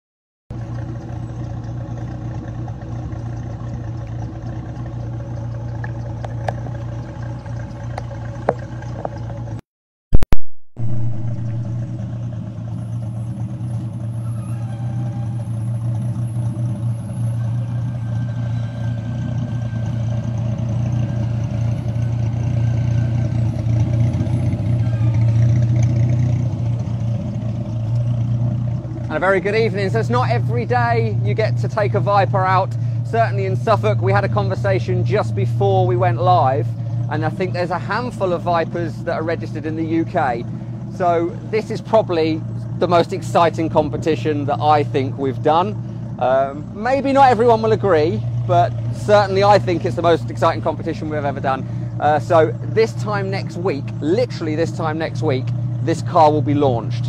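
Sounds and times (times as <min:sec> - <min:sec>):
car engine idling: 0:00.5 - 0:09.6, 0:10.8 - 0:57.0.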